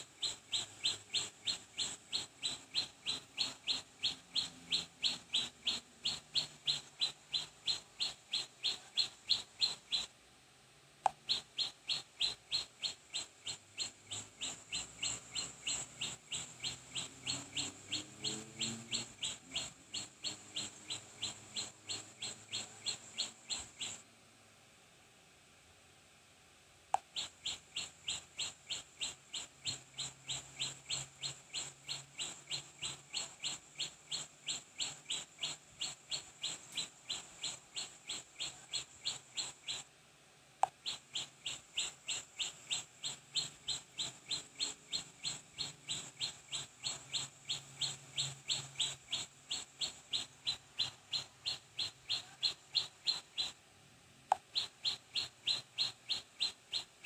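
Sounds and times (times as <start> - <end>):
bird chirping: 0.0 - 10.2, 11.0 - 24.0, 27.0 - 39.9, 40.6 - 53.6, 54.3 - 57.0.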